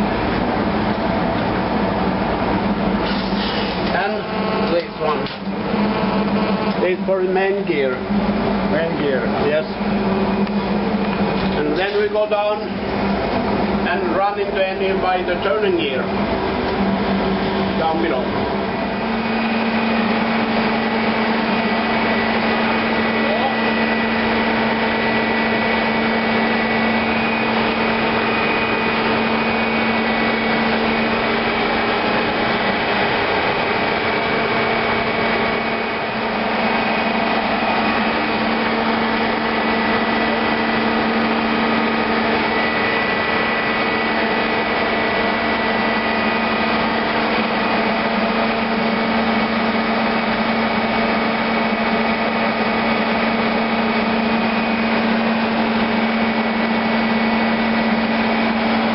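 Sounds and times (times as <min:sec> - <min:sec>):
engine room machinery humming: 0:00.0 - 0:58.9.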